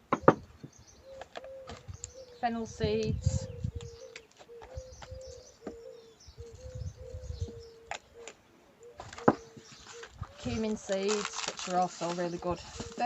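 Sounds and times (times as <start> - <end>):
bird calling low hollow notes: 0.2 - 10.8.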